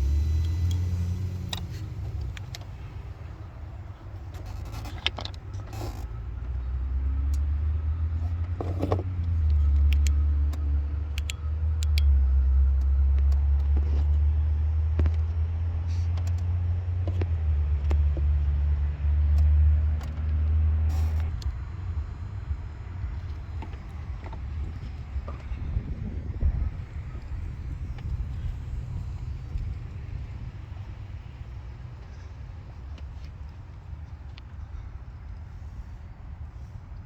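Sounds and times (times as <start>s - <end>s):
car engine low rumble: 0.0s - 37.0s.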